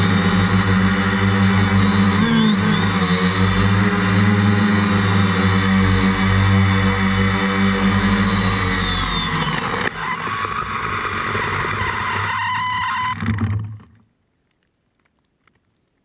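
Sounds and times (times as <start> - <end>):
drone propellers humming: 0.0 - 13.9.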